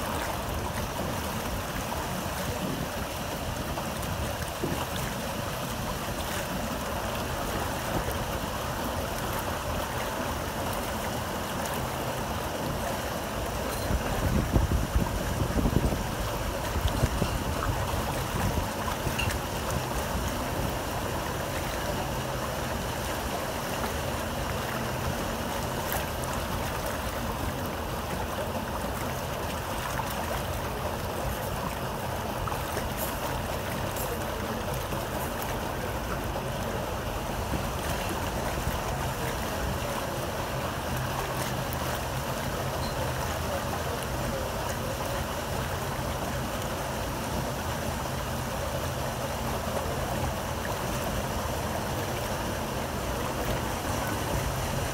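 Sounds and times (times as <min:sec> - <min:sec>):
water rushing along hull: 0:00.0 - 0:54.9.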